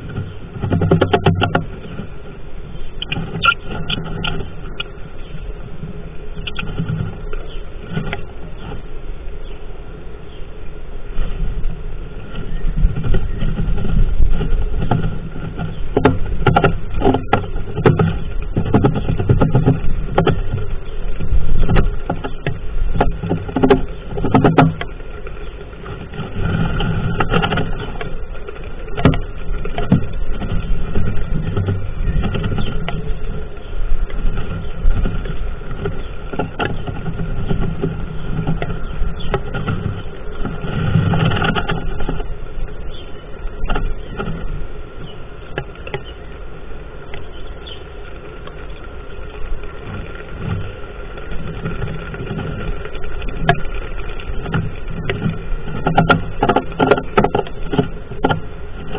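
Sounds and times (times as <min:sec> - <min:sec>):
dry grass scratching and rustling: 0:00.0 - 0:58.9
steady low rumble: 0:00.0 - 0:58.9.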